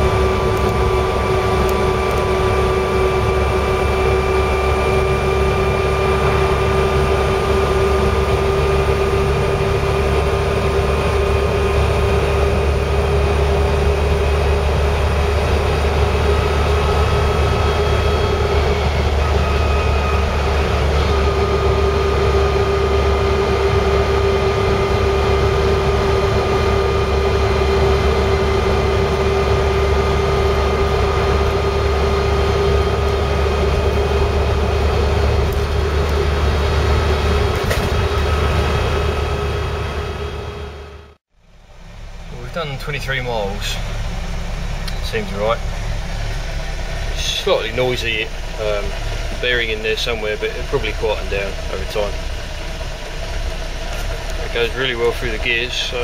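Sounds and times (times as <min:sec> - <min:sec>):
drivetrain whine: 0:00.0 - 0:56.0
road noise: 0:00.0 - 0:56.0
vehicle engine running: 0:00.0 - 0:56.0.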